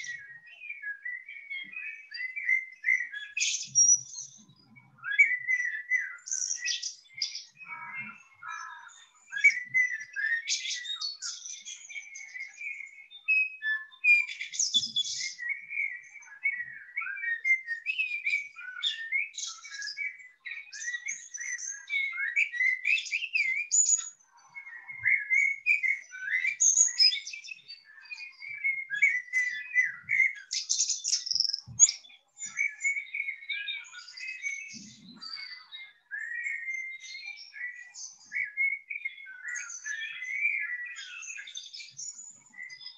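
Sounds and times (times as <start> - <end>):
songbird singing: 0.0 - 42.9.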